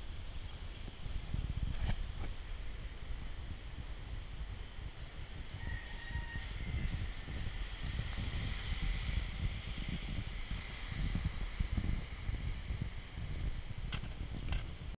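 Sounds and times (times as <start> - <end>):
steady hiss: 0.0 - 15.0
wind on microphone: 0.0 - 15.0.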